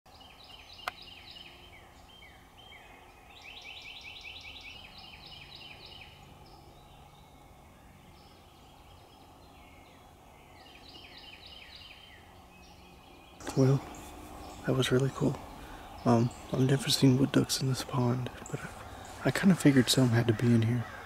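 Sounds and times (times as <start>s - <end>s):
birds calling: 0.1s - 21.0s
outdoor hush: 0.1s - 21.0s.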